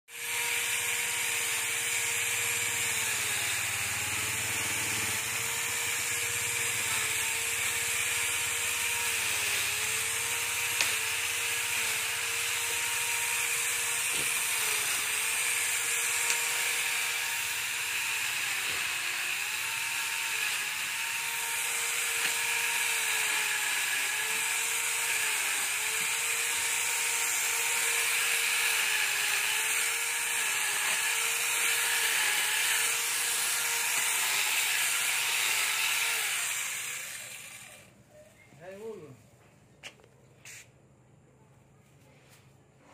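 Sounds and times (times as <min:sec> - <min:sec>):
chainsaw cutting branches: 0:00.1 - 0:37.9.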